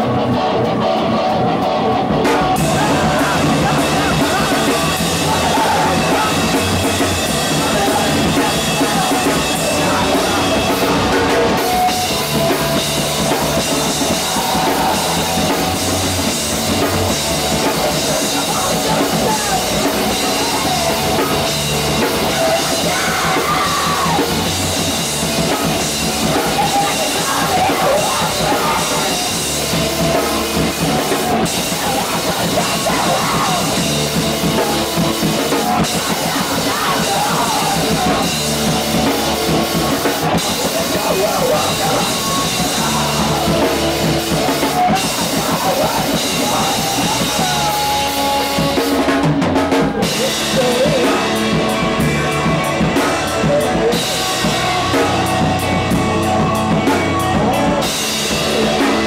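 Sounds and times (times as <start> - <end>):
drum kit with cymbals: 0.0 - 59.0
guitar: 0.0 - 59.0
live rock band playing: 0.0 - 59.0.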